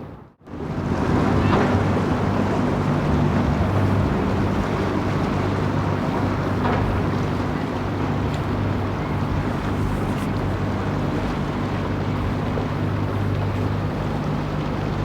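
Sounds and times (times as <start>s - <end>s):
low engine hum: 0.0s - 15.0s
street noise: 0.6s - 15.0s.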